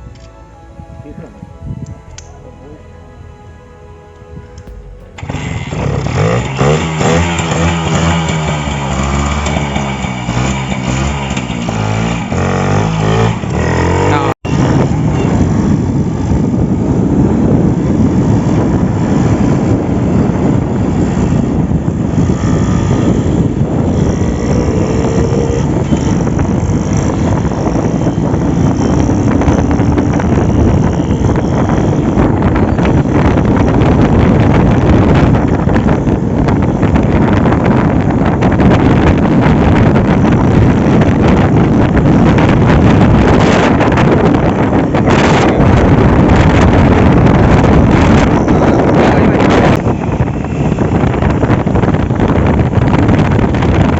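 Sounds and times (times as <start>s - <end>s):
wind on microphone: 0.0s - 53.9s
motorcycle engine revving: 4.6s - 53.9s.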